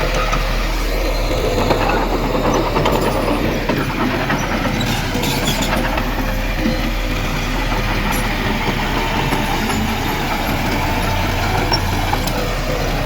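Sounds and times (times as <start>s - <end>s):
bulldozer diesel engine running: 0.0s - 13.0s
tracks clanking and rattling: 0.0s - 13.0s.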